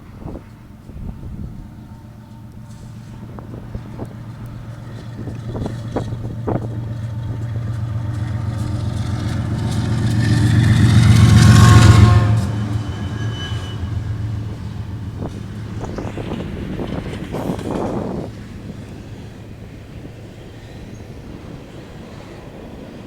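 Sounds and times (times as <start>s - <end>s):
diesel locomotive engine hum: 0.0s - 23.0s
rail noise: 0.0s - 23.0s.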